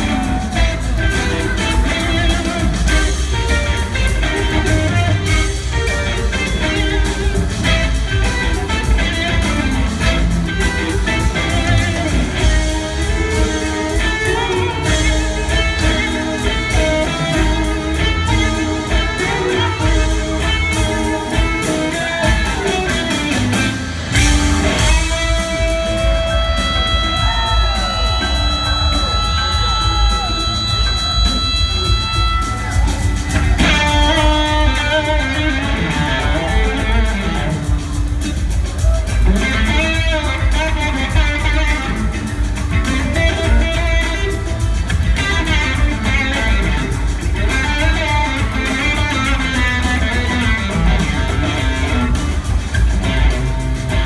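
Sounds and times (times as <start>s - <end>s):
electric guitar lead: 0.0s - 54.0s
rock band jamming: 0.0s - 54.0s.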